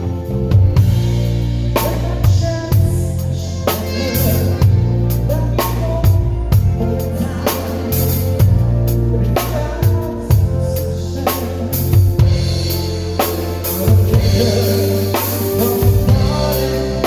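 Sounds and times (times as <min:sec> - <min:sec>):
backing track with bass and chords: 0:00.0 - 0:17.0
drum kit playing: 0:00.0 - 0:17.0.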